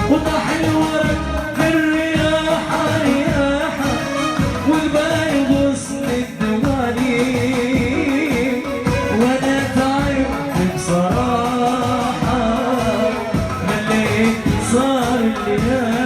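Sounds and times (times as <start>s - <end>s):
pop song with ornamented melody: 0.0s - 16.0s.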